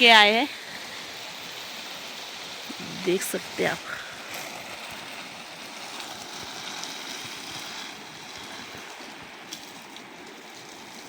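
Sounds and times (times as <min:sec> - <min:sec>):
water running from a pipe: 0:00.0 - 0:11.0.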